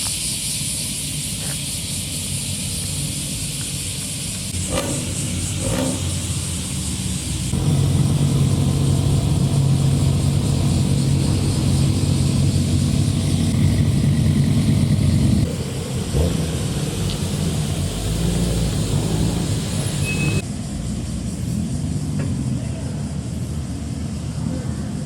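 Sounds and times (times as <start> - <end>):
car exhaust rumbling: 0.0 - 25.0.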